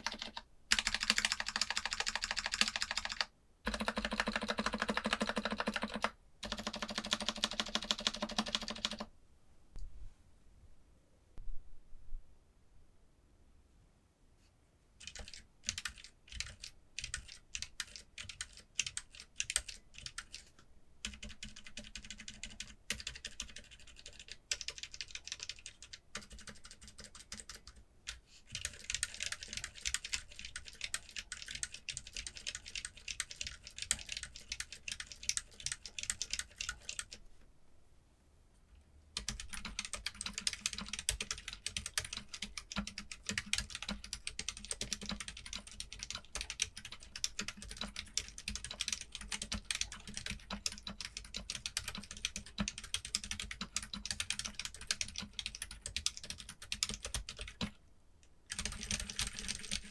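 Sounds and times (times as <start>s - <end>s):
typing on keyboard: 0.0s - 9.1s, 15.0s - 37.2s, 39.2s - 57.8s, 58.5s - 59.9s.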